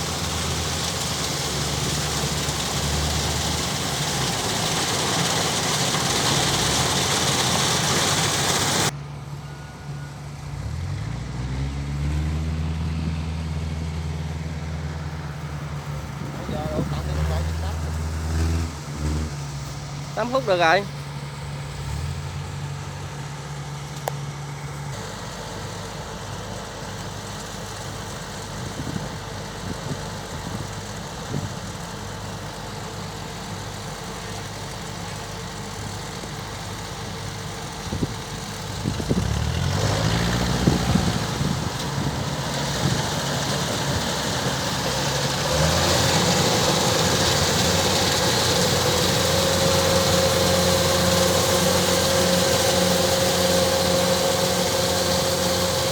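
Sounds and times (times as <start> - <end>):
combine harvester diesel engine: 0.0 - 55.9.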